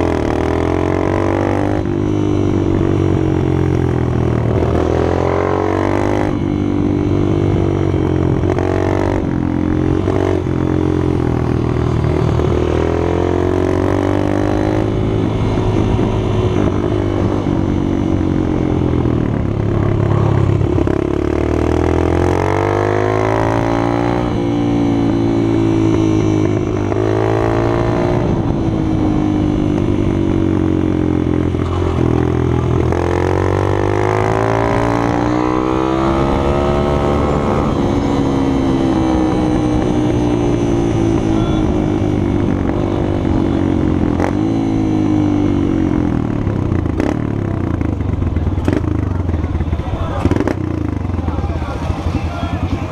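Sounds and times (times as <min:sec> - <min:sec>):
minibike engines revving: 0:00.0 - 0:52.9.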